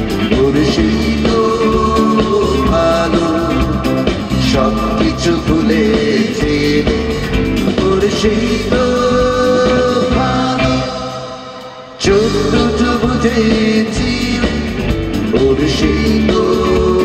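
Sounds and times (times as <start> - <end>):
bass: 0.0 - 17.0
drums: 0.0 - 17.0
electric guitar: 0.0 - 17.0.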